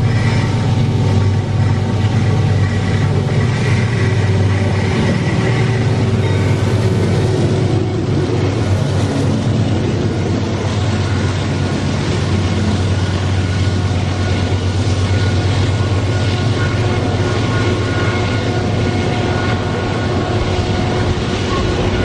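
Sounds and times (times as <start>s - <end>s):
freight wagons rumbling on rails: 0.0s - 22.0s
locomotive engines droning: 0.0s - 22.0s.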